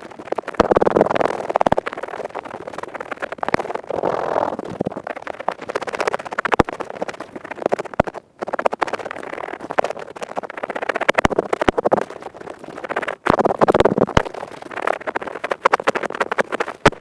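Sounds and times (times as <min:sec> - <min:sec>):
earpick scratching: 0:00.7 - 0:17.0.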